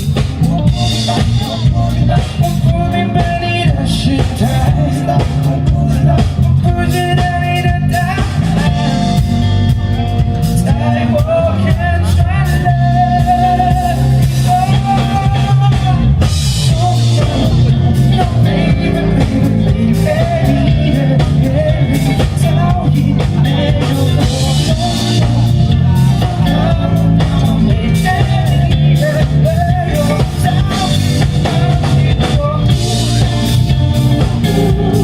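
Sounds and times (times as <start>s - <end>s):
bending lead guitar melody: 0.0s - 35.0s
rock band playing live: 0.0s - 35.0s.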